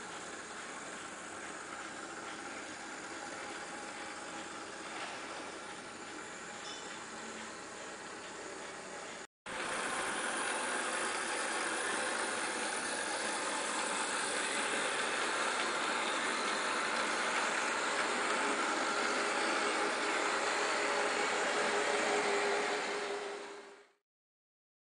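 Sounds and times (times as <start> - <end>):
model train wheels whirring: 0.0 - 24.0
small electric motor: 0.0 - 24.0.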